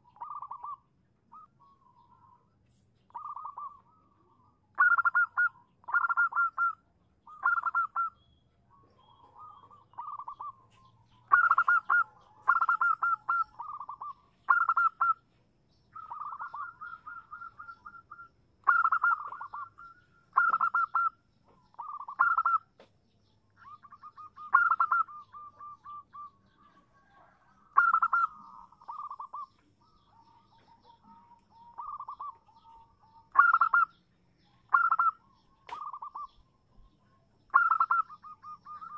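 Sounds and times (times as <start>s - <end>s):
dove trilling coos: 0.0s - 38.9s.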